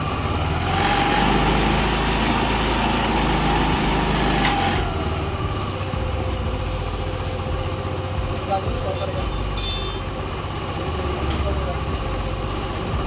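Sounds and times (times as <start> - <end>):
scooter engine revving and idling: 0.0 - 13.0.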